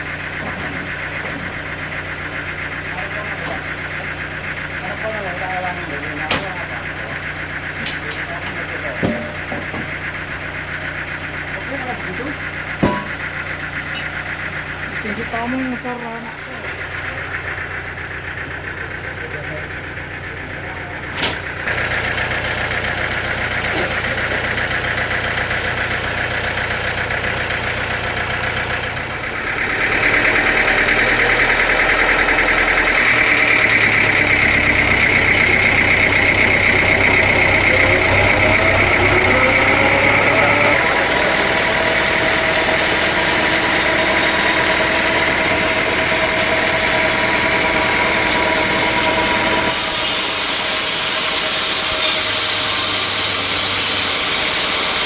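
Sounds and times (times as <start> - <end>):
engine rumbling: 0.0 - 55.0.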